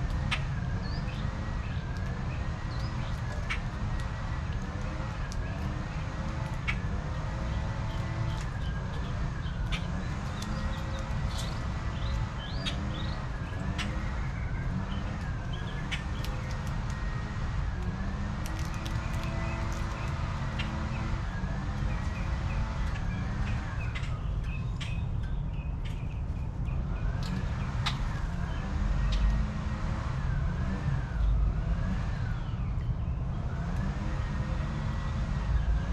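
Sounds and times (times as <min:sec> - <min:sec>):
distant siren wailing: 0:00.0 - 0:24.8, 0:26.7 - 0:35.9
birds chirping: 0:00.0 - 0:35.9.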